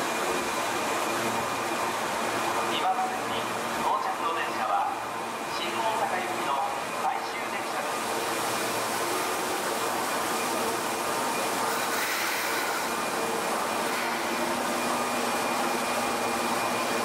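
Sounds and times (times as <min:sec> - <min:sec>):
subway train whirring hum: 0:00.0 - 0:17.0.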